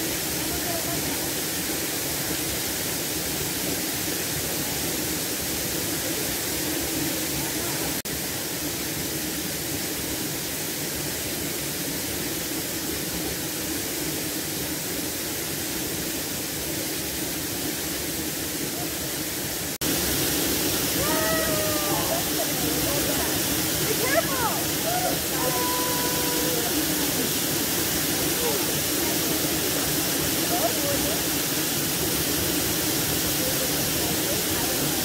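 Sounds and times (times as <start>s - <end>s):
waterfall rushing into pool: 0.0s - 35.0s.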